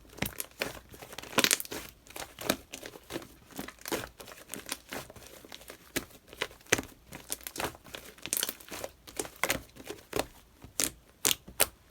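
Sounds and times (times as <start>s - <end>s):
wrapper crinkling: 0.0s - 10.9s.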